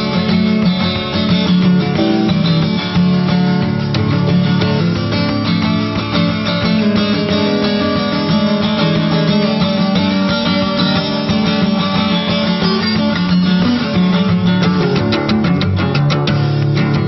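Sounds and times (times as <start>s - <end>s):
instrumental guitar music: 0.0s - 17.0s.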